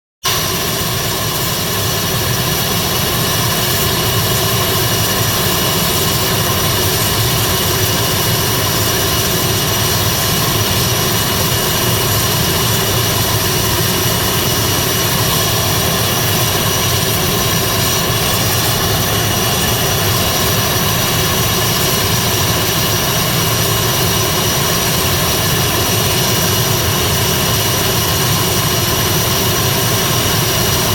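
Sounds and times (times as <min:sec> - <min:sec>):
turboprop engine roar with whine: 0:00.2 - 0:30.9.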